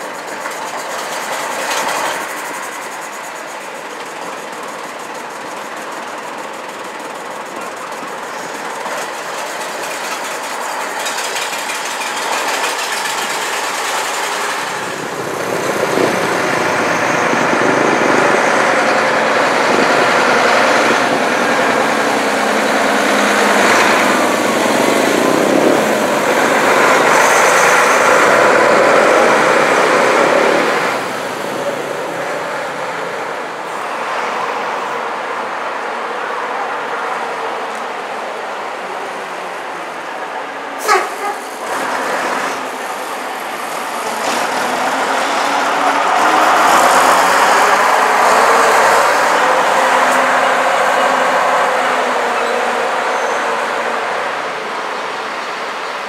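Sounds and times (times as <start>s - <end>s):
bus diesel engines: 0.0s - 56.0s
passing traffic: 0.0s - 56.0s.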